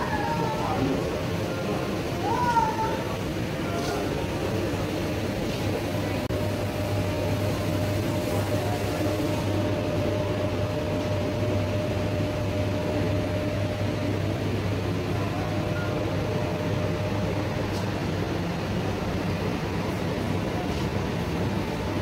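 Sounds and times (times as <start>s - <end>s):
faint steady whine: 0.0s - 22.0s
low mechanical hum: 0.0s - 22.0s.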